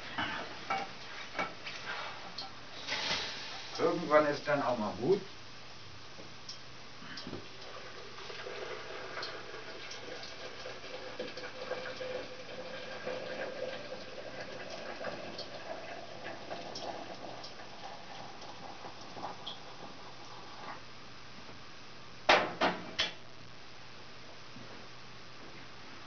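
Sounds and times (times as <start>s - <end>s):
faint hum: 0.0s - 26.0s
steady hiss: 0.0s - 26.0s.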